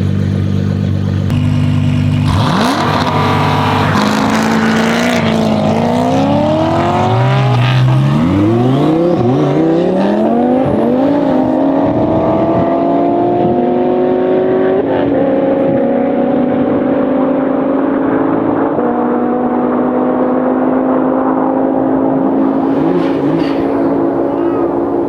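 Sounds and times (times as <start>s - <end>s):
sports car engine accelerating hard: 0.0s - 25.0s.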